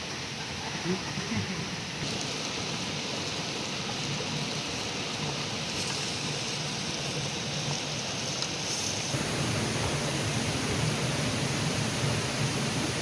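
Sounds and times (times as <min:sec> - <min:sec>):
river water rushing: 0:01.7 - 0:13.0.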